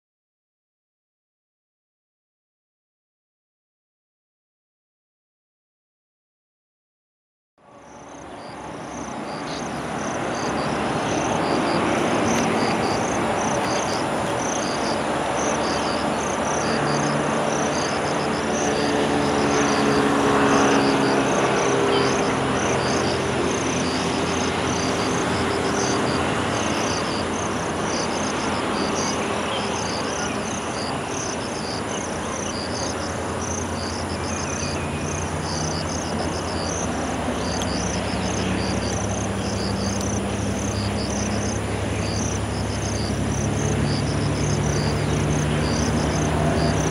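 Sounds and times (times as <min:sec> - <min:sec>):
distant diesel train hum: 0:07.6 - 0:46.9
engine hum: 0:07.6 - 0:46.9
insects chirping: 0:07.7 - 0:46.9.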